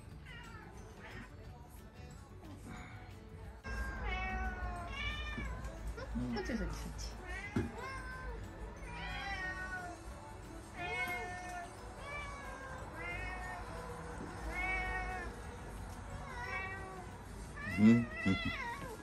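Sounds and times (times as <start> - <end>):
cats meowing: 0.0 - 1.5, 3.7 - 5.9, 6.6 - 19.0.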